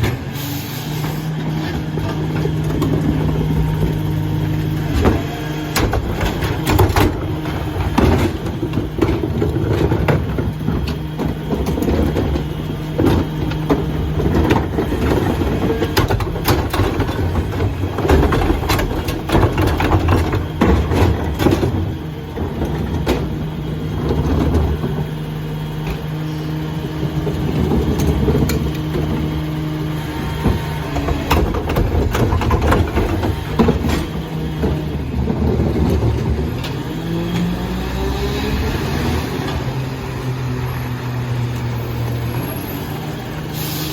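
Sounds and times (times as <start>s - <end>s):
garbage truck diesel engine: 0.0s - 43.9s
sharp clanks and knocks: 1.4s - 25.2s, 25.8s - 37.5s.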